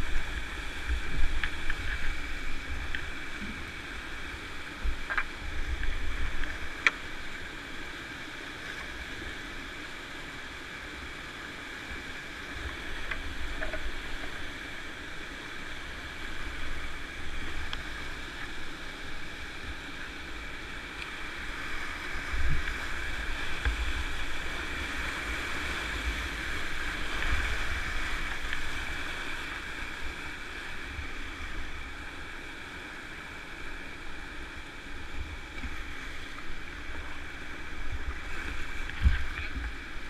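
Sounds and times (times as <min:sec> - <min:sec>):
whitewater rapids rushing: 0:00.0 - 0:40.0.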